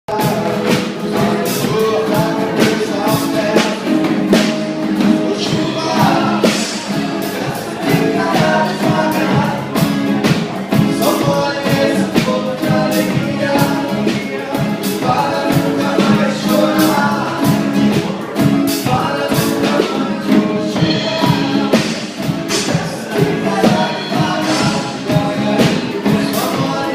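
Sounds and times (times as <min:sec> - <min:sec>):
live band playing upbeat song: 0:00.1 - 0:26.9
person singing: 0:00.1 - 0:26.9.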